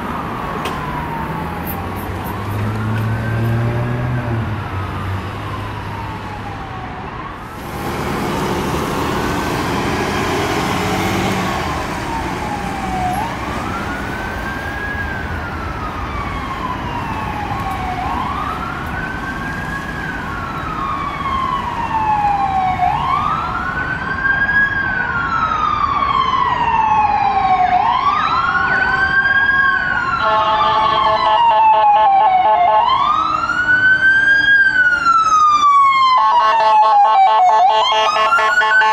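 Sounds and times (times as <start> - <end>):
ambulance wail siren: 0.0 - 38.9
passing vehicle road noise: 0.0 - 38.9.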